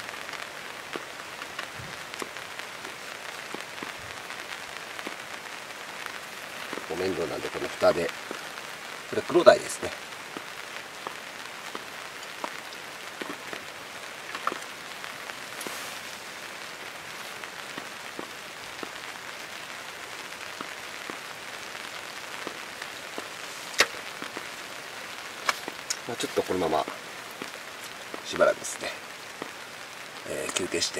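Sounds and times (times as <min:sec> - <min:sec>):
steady rain falling: 0:00.0 - 0:30.9
water drips ticking: 0:00.3 - 0:15.4, 0:17.7 - 0:30.9.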